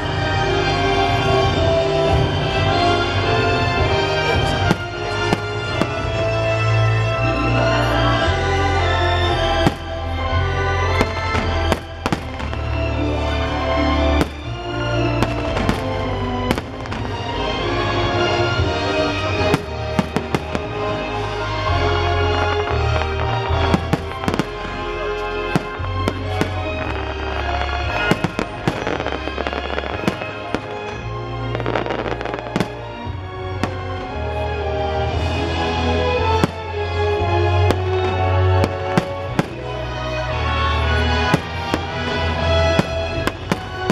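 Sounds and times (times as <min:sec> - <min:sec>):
fireworks bangs and crackles: 0:00.0 - 0:43.9
loud show music: 0:00.0 - 0:43.9.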